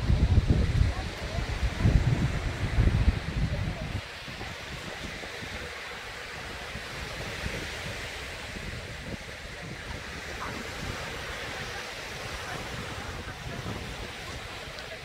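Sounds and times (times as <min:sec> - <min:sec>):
small waves breaking on sand: 0:00.0 - 0:15.0
wind rumbling on microphone: 0:00.0 - 0:15.0.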